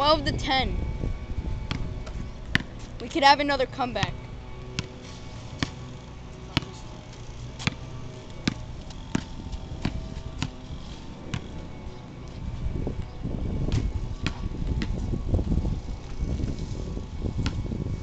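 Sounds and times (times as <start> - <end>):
basketball bouncing on pavement: 1.6 - 2.9, 4.0 - 13.1, 13.7 - 17.9.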